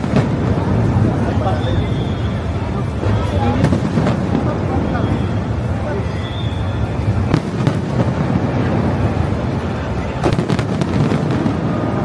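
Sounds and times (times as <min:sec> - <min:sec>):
fireworks booming and cracking: 0:00.0 - 0:12.0.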